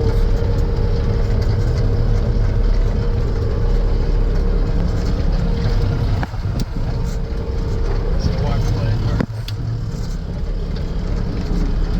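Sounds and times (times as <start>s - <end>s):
diesel engine rumbling: 0.0s - 11.9s
engine whine: 0.0s - 11.9s.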